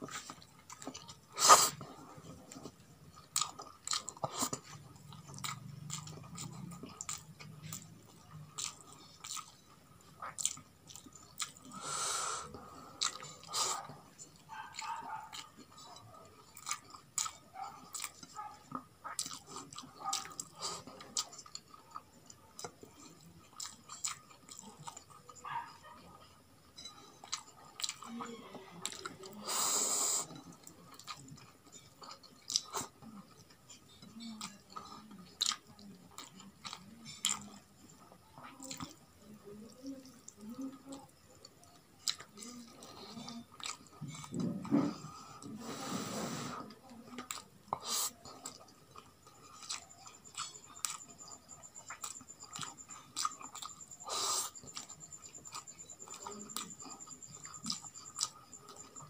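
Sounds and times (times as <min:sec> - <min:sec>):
close chewing: 0:00.0 - 0:59.0.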